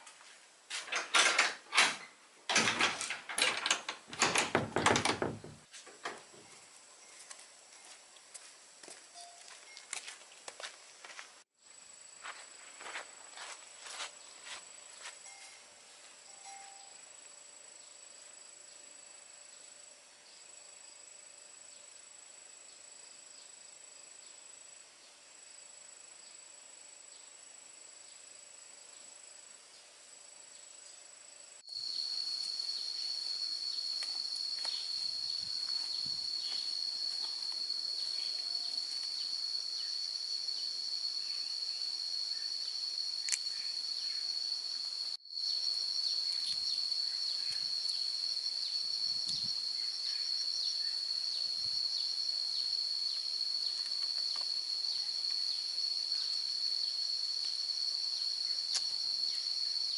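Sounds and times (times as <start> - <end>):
insect chorus drone: 10.3 - 59.9.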